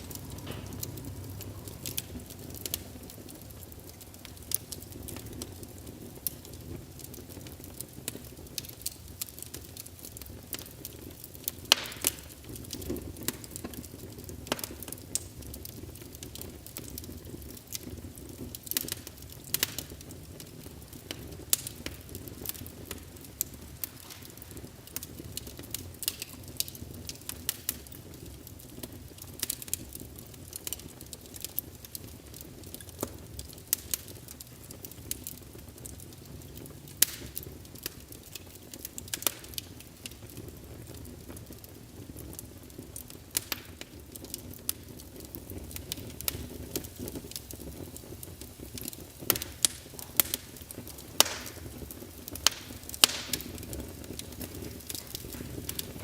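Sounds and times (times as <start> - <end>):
logs crackling in fireplace: 0.0 - 56.0
low rumble of flames: 0.0 - 56.0.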